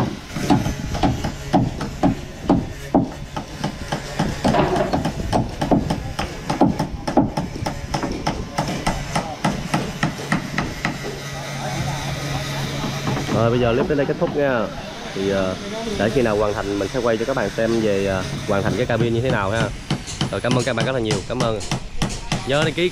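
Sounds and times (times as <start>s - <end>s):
hammer blows on heavy timber: 0.0s - 14.7s, 15.9s - 22.9s.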